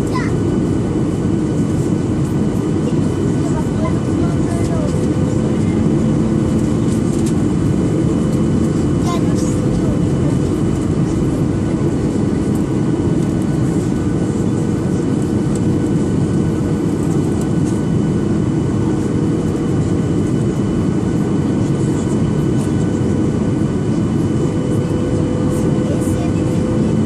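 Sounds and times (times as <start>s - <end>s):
airplane cabin roar: 0.0s - 27.0s.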